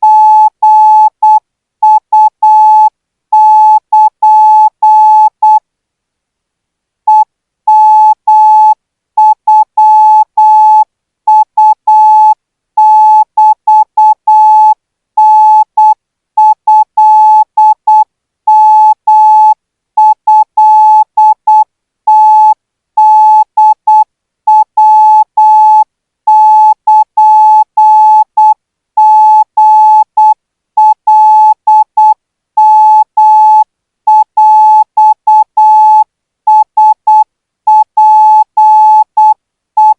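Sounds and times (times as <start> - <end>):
morse code beeps: 7.1 - 39.9.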